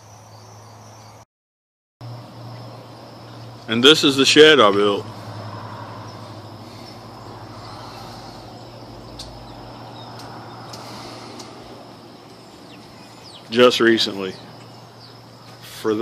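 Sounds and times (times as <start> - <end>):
faint high insect chirring: 0.0 - 1.2, 2.0 - 16.0
distant ambient hiss: 2.0 - 16.0.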